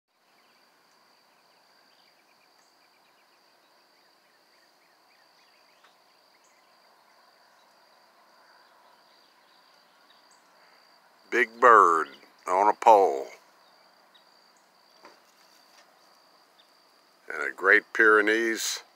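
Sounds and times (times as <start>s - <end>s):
faint bird chirps: 0.2s - 17.8s
high insect trill: 0.2s - 18.9s.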